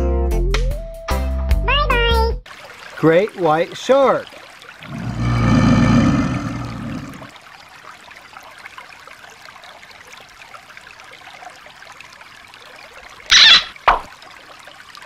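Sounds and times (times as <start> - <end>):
stream trickling over rocks: 2.4 - 15.0.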